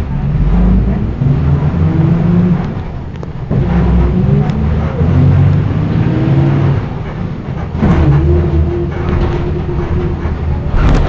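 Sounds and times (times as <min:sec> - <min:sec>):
bus diesel engine: 0:00.0 - 0:11.0
road noise: 0:00.0 - 0:11.0.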